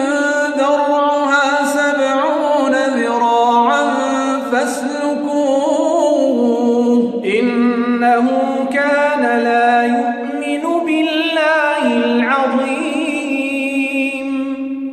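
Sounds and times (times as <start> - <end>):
man chanting recitation: 0.0 - 14.9.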